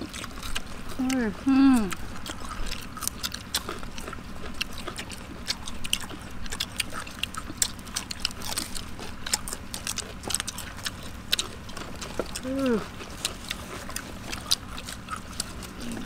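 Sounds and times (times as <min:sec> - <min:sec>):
person chewing wetly: 0:00.0 - 0:16.0.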